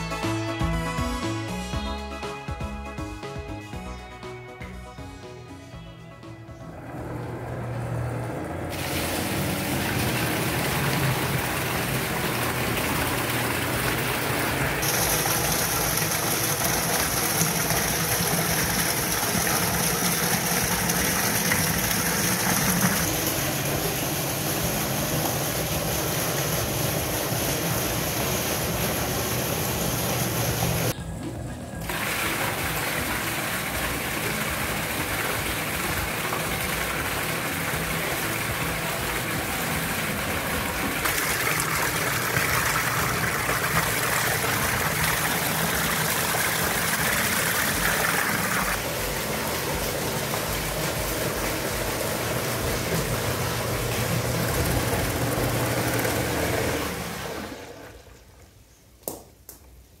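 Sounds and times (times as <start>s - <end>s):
pump motor humming: 5.9s - 58.4s
water splashing into bucket: 8.7s - 31.0s, 31.8s - 58.1s.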